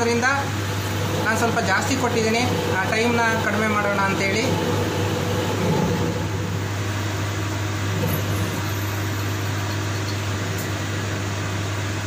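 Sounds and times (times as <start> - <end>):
lathe running with steady hum: 0.0 - 12.0.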